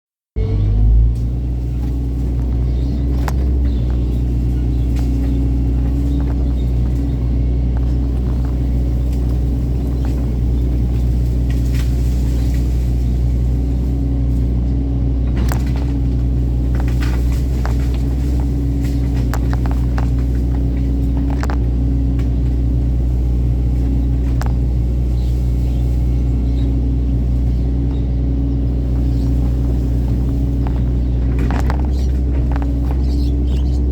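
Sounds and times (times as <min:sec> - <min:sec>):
excavator diesel engine running: 0:00.4 - 0:33.9
sharp cracks and knocks: 0:01.2 - 0:26.0, 0:26.6 - 0:33.9.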